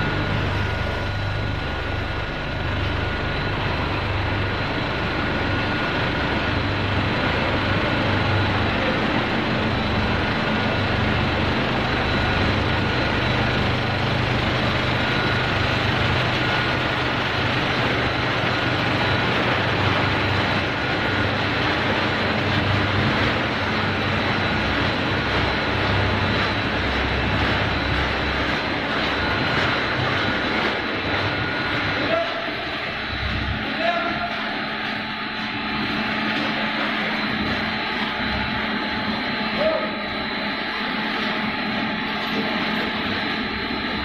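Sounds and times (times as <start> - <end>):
high whine: 0.0 - 44.0
motors and conveyors running: 0.0 - 44.0.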